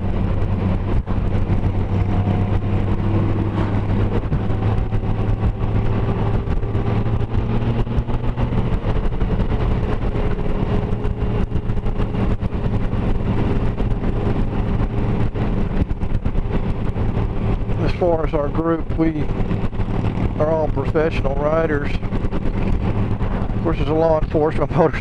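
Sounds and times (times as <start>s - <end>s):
motorcycle engine droning: 0.0s - 25.0s
wind rushing over microphone: 0.0s - 25.0s.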